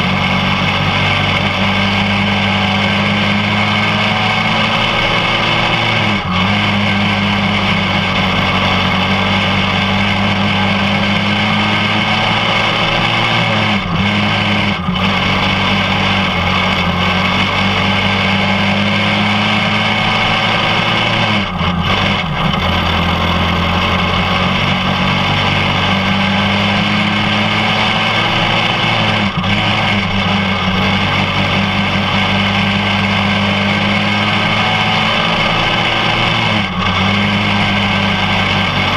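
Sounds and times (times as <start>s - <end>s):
kart engine at high revs: 0.0s - 38.9s.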